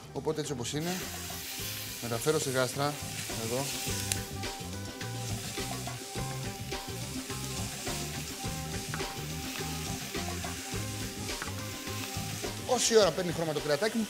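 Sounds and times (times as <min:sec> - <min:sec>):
meat sizzling in a hot pan: 0:00.8 - 0:14.0.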